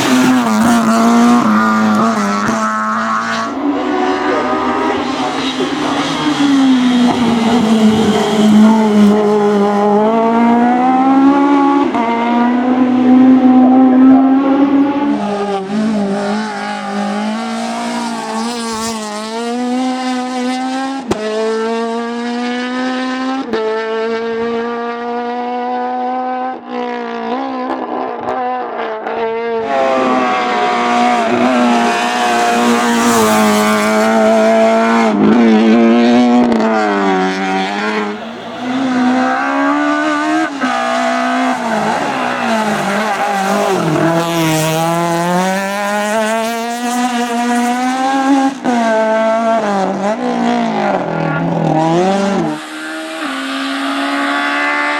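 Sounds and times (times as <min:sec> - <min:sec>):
car engine at high revs: 0:00.0 - 0:54.9.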